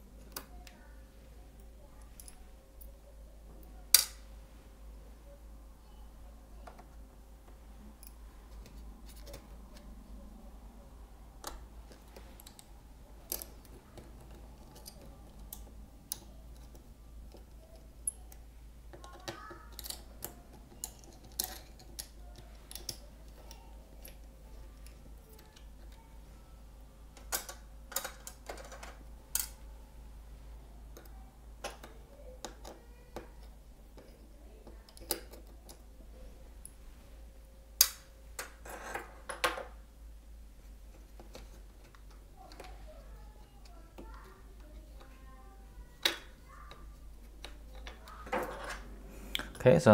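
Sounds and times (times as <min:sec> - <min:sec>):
faint low hum: 0:00.0 - 0:49.9.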